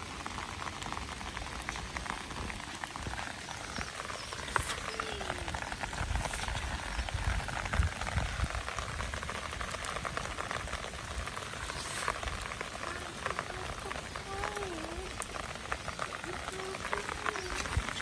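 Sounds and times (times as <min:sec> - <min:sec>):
rain falling: 0:00.0 - 0:18.0
raindrops ticking: 0:00.0 - 0:18.0.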